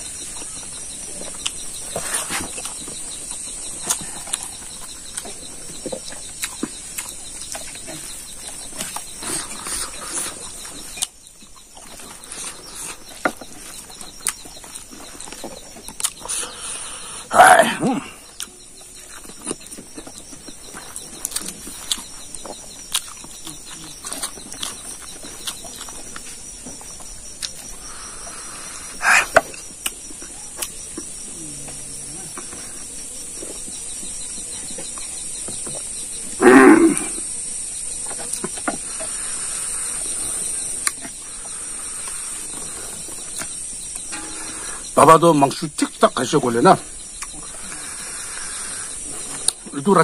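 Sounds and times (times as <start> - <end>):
man chewing and mouth-smacking: 0.0 - 16.7, 18.2 - 36.4, 37.0 - 44.9, 47.0 - 49.7
high-pitched insect chorus: 0.0 - 50.0.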